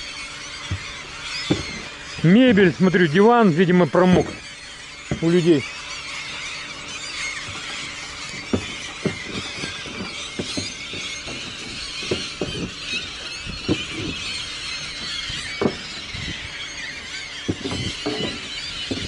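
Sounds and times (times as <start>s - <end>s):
gulls calling: 0.0s - 19.0s.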